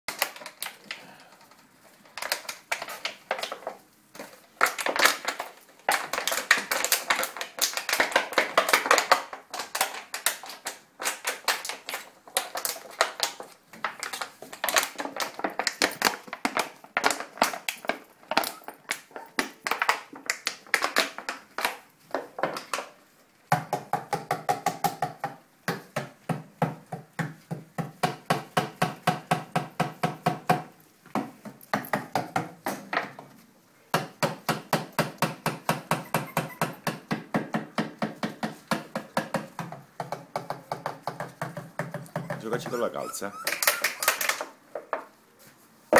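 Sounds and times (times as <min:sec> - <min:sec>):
puppy paws tapping and scratching: 0:00.1 - 0:45.9.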